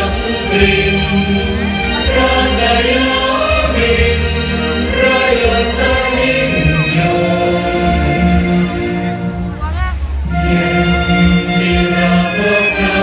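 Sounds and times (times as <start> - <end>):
choir singing: 0.0 - 9.2, 10.2 - 13.0
instrumental accompaniment: 0.0 - 13.0.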